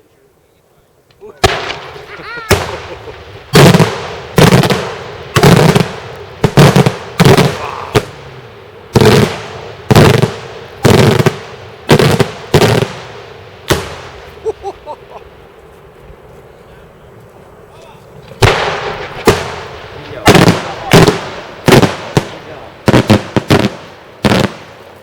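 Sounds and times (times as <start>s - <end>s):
fireworks bursting with heavy bangs: 1.4s - 17.0s, 17.6s - 25.0s.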